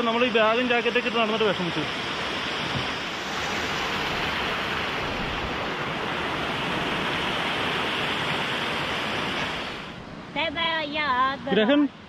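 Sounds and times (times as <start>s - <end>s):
stream rushing over rocks: 0.0s - 10.3s.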